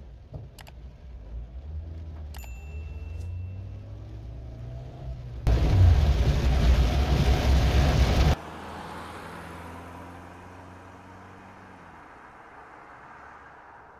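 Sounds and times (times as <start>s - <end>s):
road noise and rain in car: 0.0s - 13.9s.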